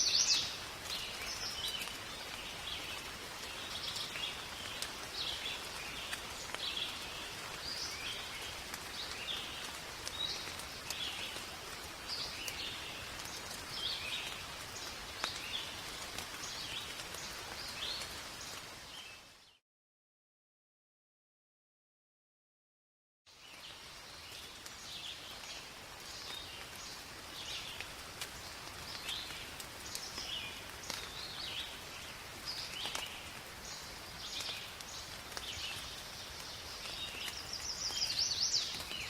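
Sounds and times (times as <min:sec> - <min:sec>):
steady rain in forest: 0:00.0 - 0:19.6, 0:23.3 - 0:39.0
raindrops tapping: 0:00.4 - 0:18.7, 0:24.3 - 0:39.0.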